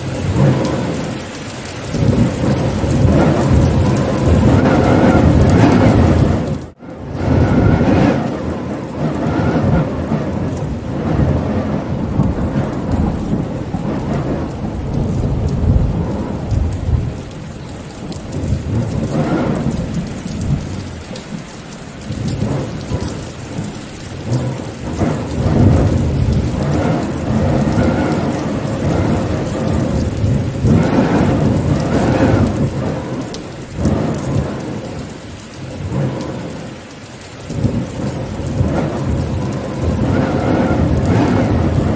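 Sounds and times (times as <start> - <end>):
rain falling: 0.0 - 41.9
rolling thunder: 0.0 - 41.9.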